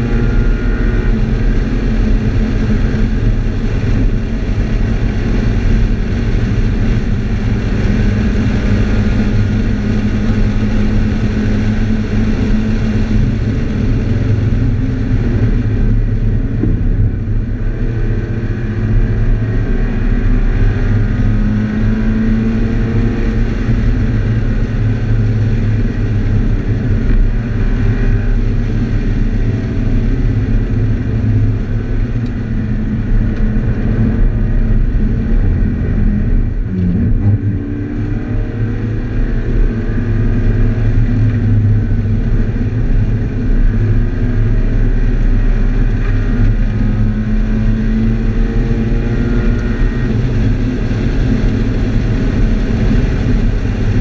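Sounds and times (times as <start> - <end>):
car engine running hard: 0.0 - 54.0
tyre and road noise: 0.0 - 54.0.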